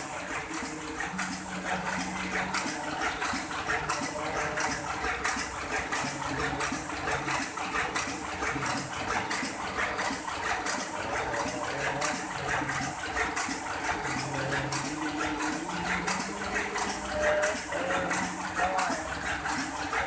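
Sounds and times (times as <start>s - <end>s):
machine drive hum: 0.0s - 20.0s
printing press rhythmic clatter: 0.0s - 20.0s.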